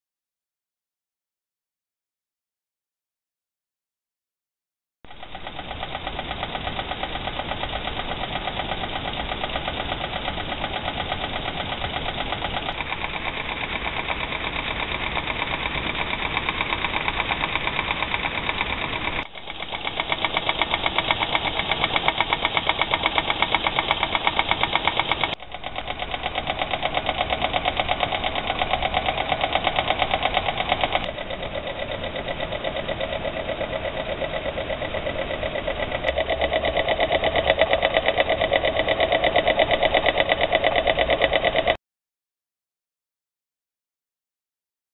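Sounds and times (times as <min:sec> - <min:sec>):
toy steam engine puffing: 0:05.1 - 0:41.8.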